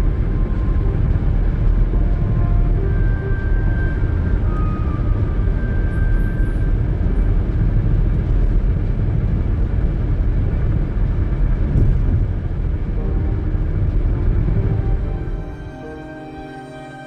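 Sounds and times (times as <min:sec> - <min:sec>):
car road and engine rumble: 0:00.0 - 0:16.7.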